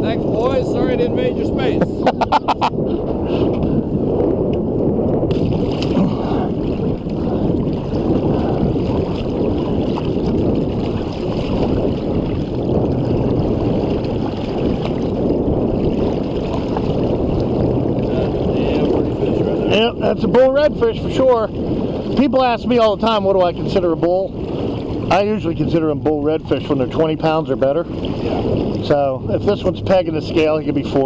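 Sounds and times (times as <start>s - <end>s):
wind rumble on microphone: 0.0s - 31.0s
water sloshing and splashing: 5.1s - 31.0s.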